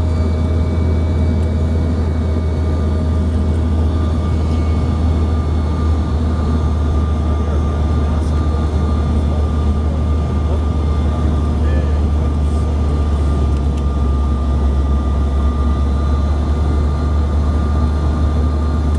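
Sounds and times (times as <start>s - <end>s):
jet cabin rumble: 0.0s - 18.9s
turbofan whine: 0.0s - 18.9s.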